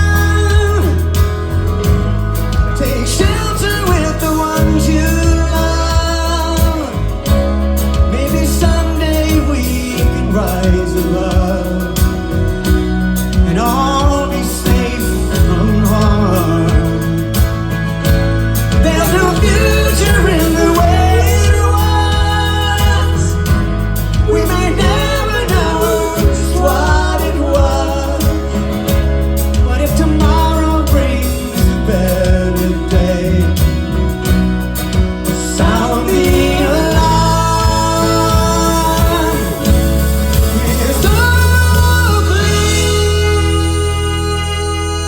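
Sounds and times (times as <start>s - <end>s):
person singing: 0.0s - 45.0s
rock band playing live: 0.0s - 45.0s.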